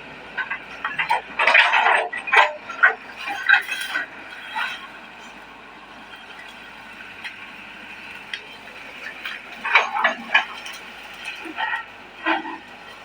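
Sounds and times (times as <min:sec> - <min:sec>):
excavator bucket clanking: 0:00.3 - 0:07.6, 0:08.2 - 0:13.0.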